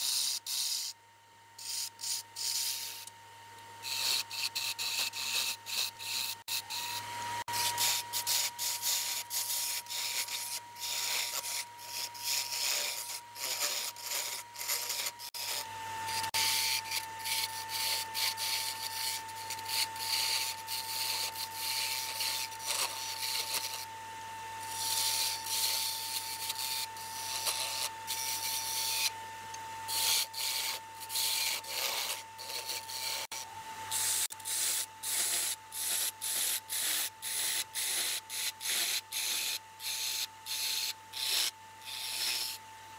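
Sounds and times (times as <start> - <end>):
lathe high whine: 0.0 - 36.2
lathe tool scraping wood: 1.6 - 3.1, 3.8 - 24.0, 24.6 - 42.6.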